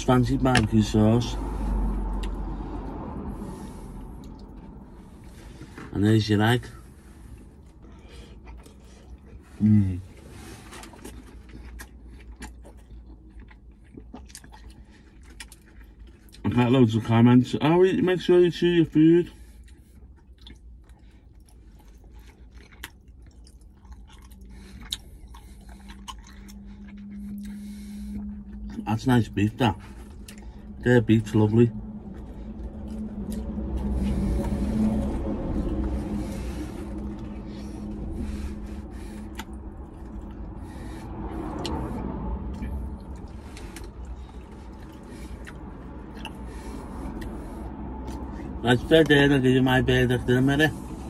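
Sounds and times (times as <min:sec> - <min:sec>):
faint steady hum: 0:00.0 - 0:51.0
low rumble inside a car: 0:00.0 - 0:51.0
man chewing food: 0:01.4 - 0:05.9, 0:06.8 - 0:16.6, 0:19.2 - 0:48.6.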